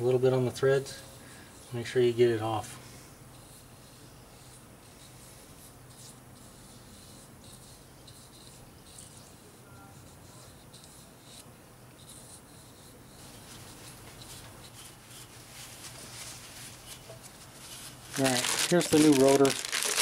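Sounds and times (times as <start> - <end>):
small brush scratching on metal: 0.0 - 20.0.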